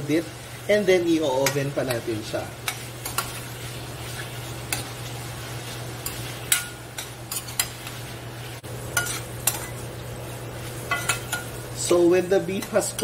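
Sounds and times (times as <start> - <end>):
beef sizzling in butter: 0.0 - 13.0.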